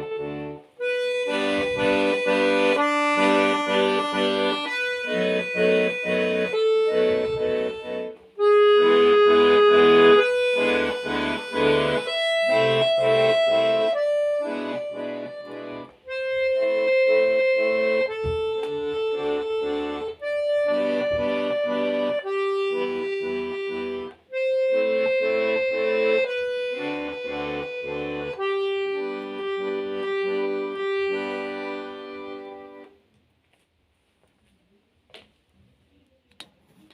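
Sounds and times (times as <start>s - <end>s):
button accordion melody: 0.0s - 33.0s.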